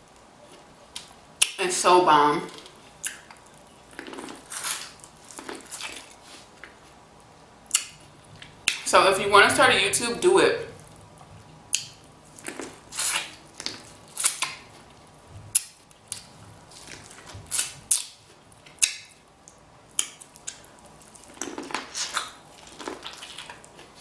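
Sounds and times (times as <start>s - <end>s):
wet chewing of shellfish: 2.6s - 8.8s, 10.8s - 24.0s.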